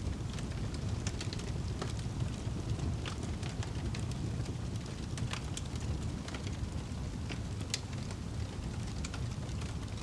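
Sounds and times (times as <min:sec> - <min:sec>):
burning logs popping and snapping: 0:00.0 - 0:10.0
wood fire crackling: 0:00.0 - 0:10.0.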